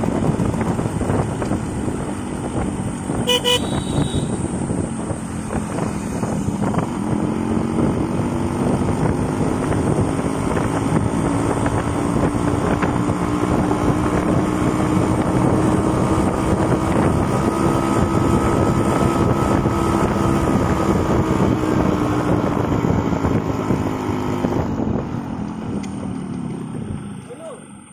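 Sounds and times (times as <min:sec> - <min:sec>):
wind rushing over microphone: 0:00.0 - 0:27.2
motorcycle engine cruising: 0:00.0 - 0:27.9.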